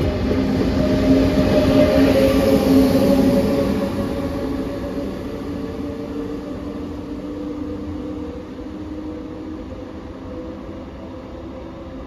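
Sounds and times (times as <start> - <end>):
electric train rumbling and humming: 0.0 - 12.0.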